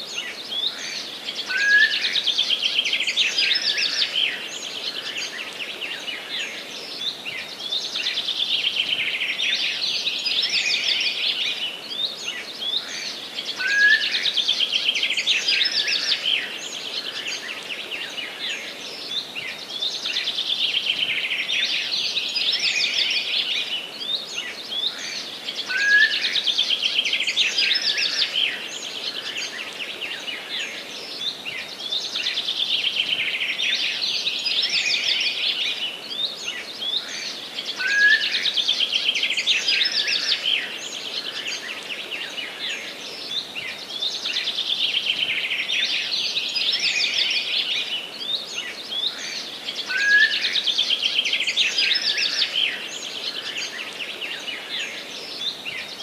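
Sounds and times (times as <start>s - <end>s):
background hiss: 0.0s - 56.0s
songbirds chorus: 0.0s - 56.0s.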